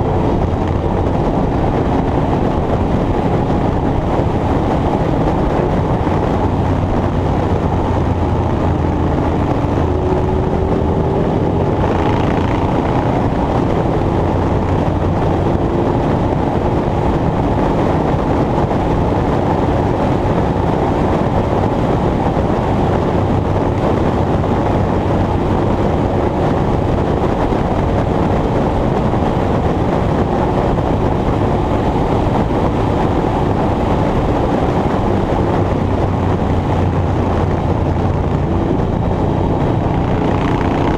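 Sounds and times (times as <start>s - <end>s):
low mechanical engine rumble: 0.0s - 40.9s.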